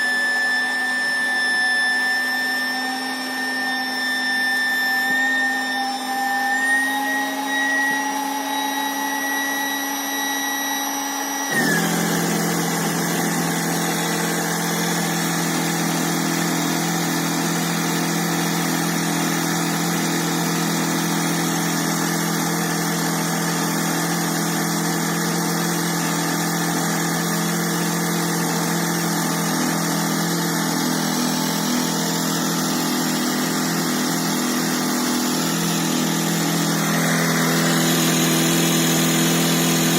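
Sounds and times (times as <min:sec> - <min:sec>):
electric air pump running: 0:00.0 - 0:39.9.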